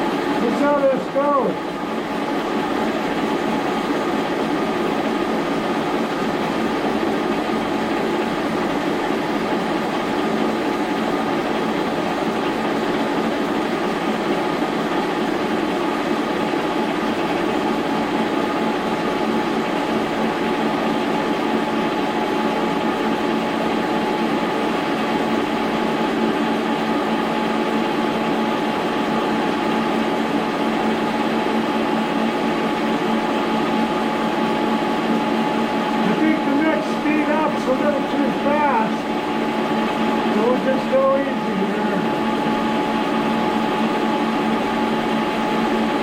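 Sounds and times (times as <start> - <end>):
milling machine humming and whining: 0.0 - 46.0.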